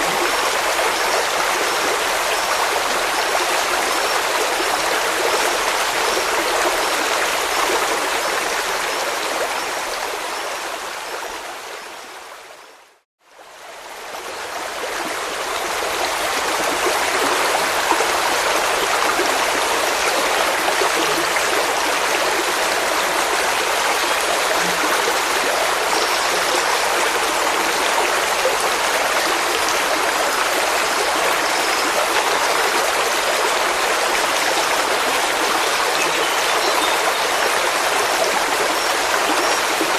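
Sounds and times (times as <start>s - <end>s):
stream water rushing: 0.0s - 12.7s, 13.3s - 39.9s.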